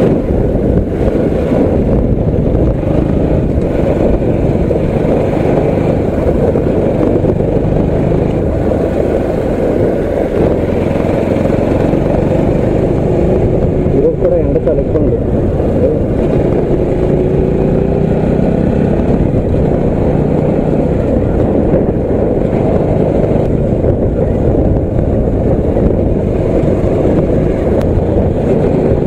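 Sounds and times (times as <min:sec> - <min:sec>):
motorcycle engine running: 0:00.0 - 0:29.0
wind rush on microphone: 0:00.0 - 0:29.0.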